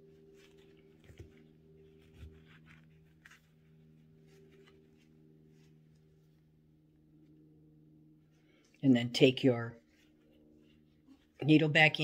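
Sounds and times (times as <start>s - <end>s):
faint yarn rustling: 0.0s - 6.7s, 8.3s - 12.0s
steady low hum: 0.0s - 12.0s.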